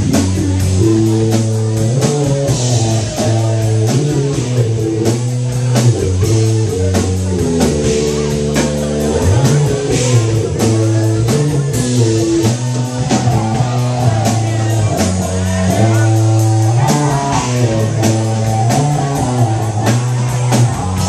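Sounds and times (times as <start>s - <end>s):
drum kit beat: 0.0s - 21.0s
electric guitar playing: 0.0s - 21.0s.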